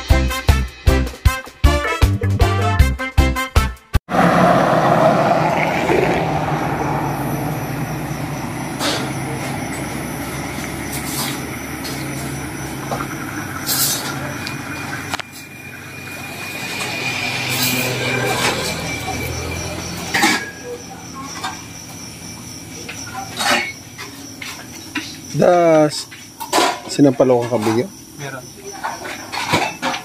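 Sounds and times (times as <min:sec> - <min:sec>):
traffic hum: 0:04.1 - 0:30.0.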